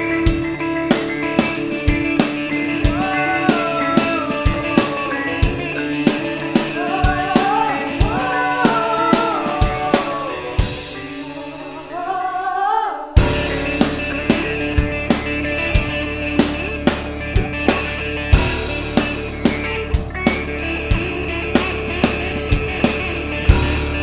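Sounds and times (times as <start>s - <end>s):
drum kit beat: 0.0s - 11.4s, 13.2s - 24.0s
sliding lead melody: 0.0s - 12.1s, 13.2s - 24.0s.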